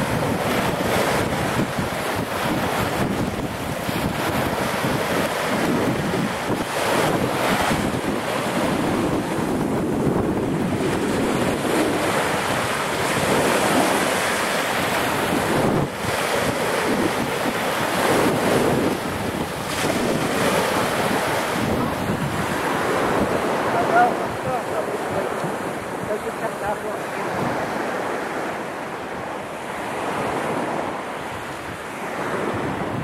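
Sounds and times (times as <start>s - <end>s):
surf washing up beach: 0.0s - 33.0s.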